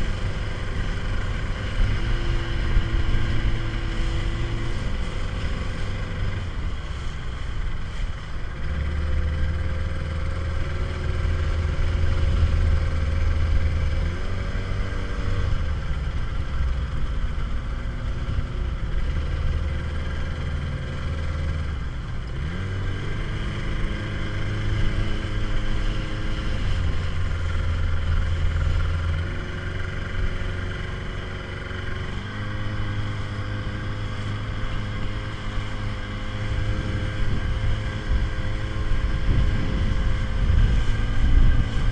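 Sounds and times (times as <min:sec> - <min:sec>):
motorboat engine running: 0:00.0 - 0:41.9.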